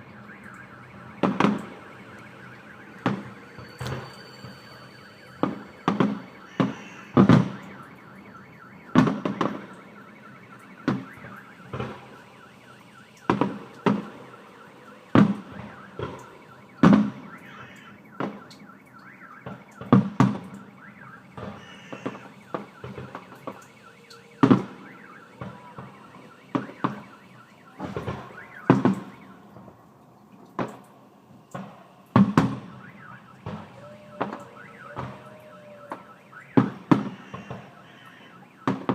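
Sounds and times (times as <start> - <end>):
fireworks exploding: 0.0 - 38.9.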